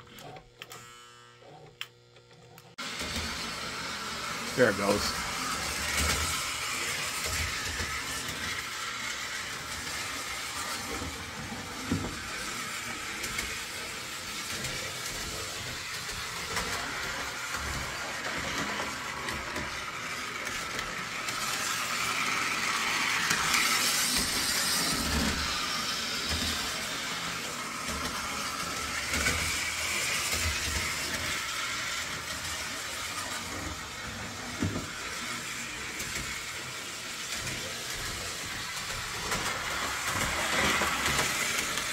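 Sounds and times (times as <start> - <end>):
toy train motor whir: 0.0 - 41.9.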